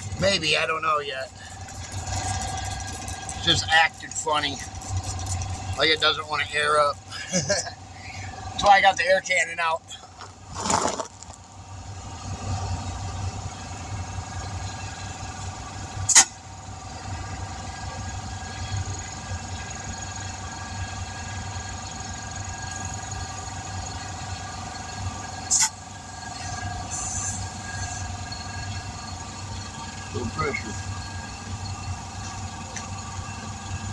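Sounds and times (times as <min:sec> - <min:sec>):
motor running with whining tones: 0:00.0 - 0:33.9.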